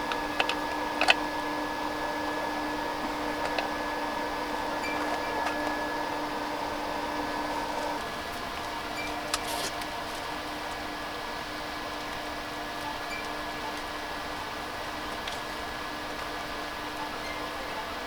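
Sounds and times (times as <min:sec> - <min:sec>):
electric fan whirring: 0:00.0 - 0:18.0.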